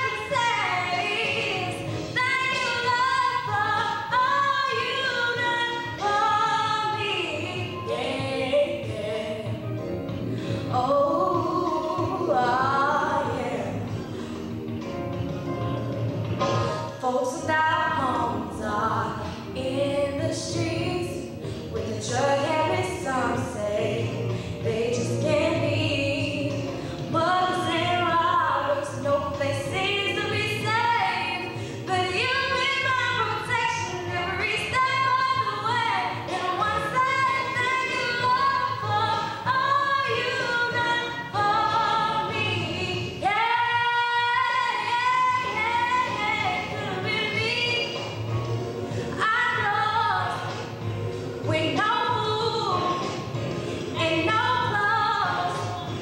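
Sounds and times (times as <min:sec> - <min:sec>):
woman singing: 0:00.0 - 0:09.9, 0:10.6 - 0:14.1, 0:16.8 - 0:48.3, 0:49.1 - 0:50.8, 0:51.4 - 0:56.0
backing music track: 0:00.0 - 0:56.0.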